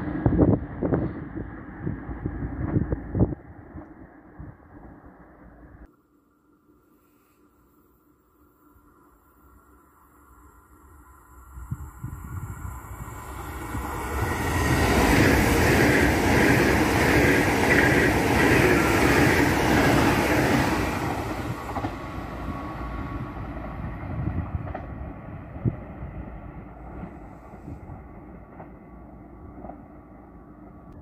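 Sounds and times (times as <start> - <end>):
high-speed train passing: 0.0 - 5.9, 8.8 - 31.0.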